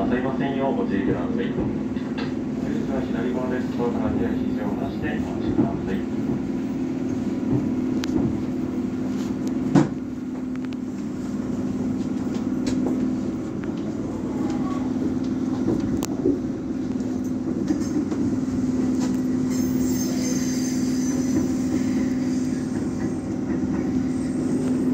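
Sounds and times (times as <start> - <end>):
train running hum: 0.0 - 24.9.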